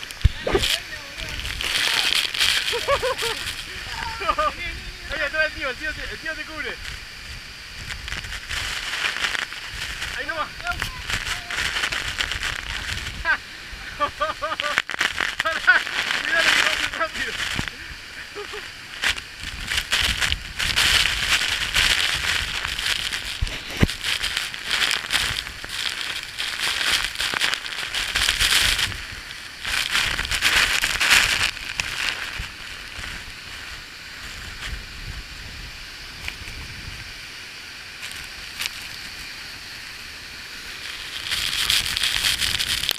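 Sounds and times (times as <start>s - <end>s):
microphone crackling and rumble: 0.0s - 37.2s, 40.6s - 42.9s.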